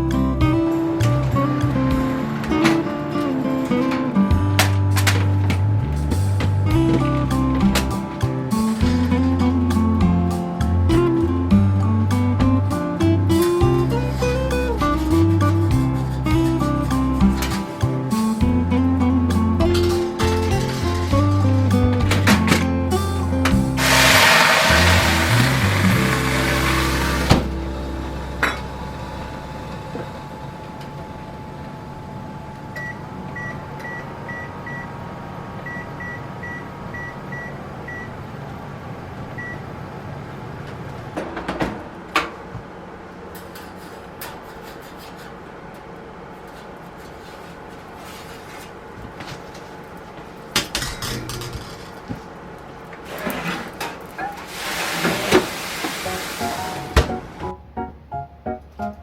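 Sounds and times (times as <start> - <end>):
oven humming: 0.0 - 59.0.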